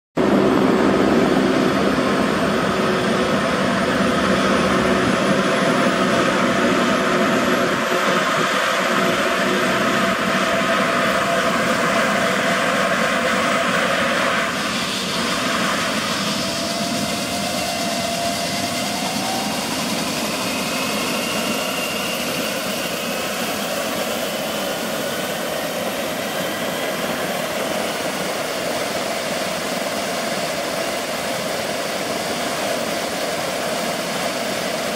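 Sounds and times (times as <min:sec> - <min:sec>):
helicopter turbine engines whining: 0:00.2 - 0:34.9
helicopter main rotor turning: 0:00.3 - 0:34.8.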